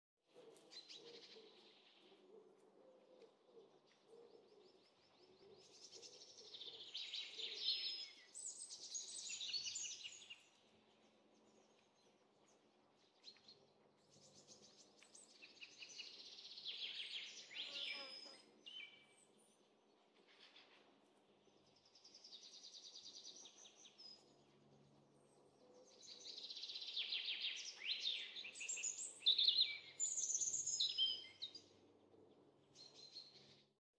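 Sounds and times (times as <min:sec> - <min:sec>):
songbirds trilling and chirping: 0:00.3 - 0:33.7.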